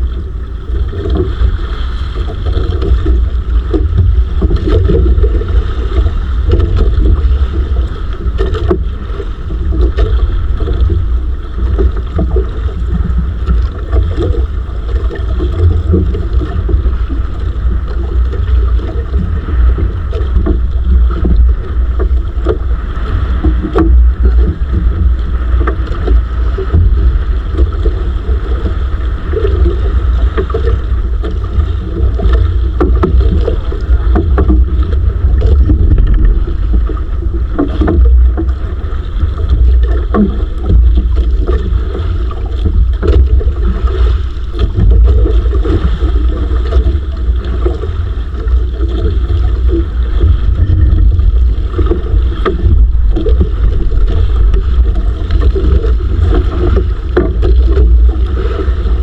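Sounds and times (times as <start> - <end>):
boat engine rumbling drone: 0.0 - 59.0
water noise: 0.0 - 59.0
wind: 0.0 - 59.0.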